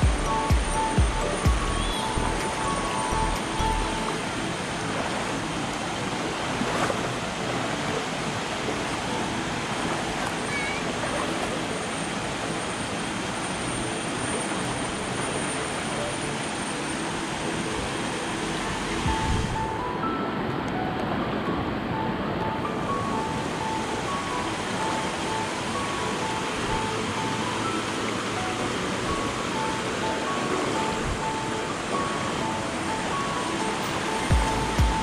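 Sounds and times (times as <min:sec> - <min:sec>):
river rushing over rocks: 0:00.0 - 0:35.0.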